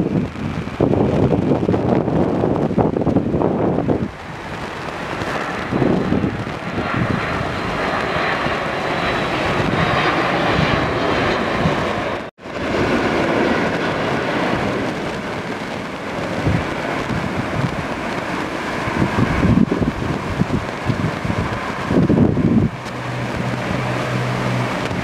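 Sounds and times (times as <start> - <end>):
jet airliner engines rushing: 0.0 - 25.0.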